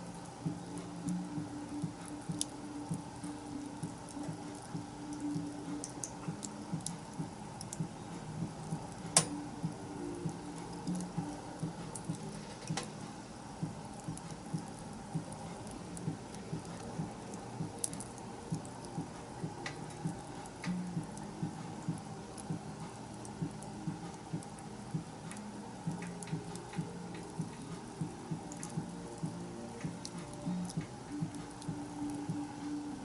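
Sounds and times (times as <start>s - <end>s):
bonfire crackling: 0.0s - 33.0s
fire pops: 0.5s - 32.5s.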